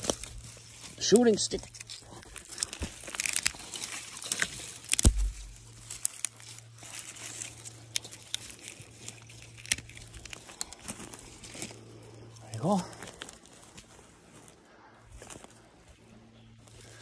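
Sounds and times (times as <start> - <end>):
sticks crackling and snapping: 0.0 - 14.6
footsteps on forest litter: 0.0 - 17.0.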